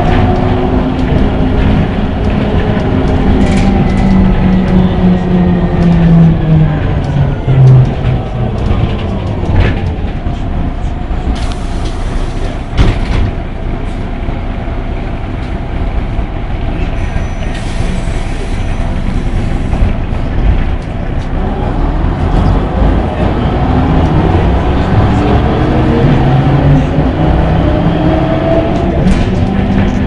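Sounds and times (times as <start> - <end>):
bus diesel engine running: 0.0 - 30.0
road noise: 0.0 - 30.0.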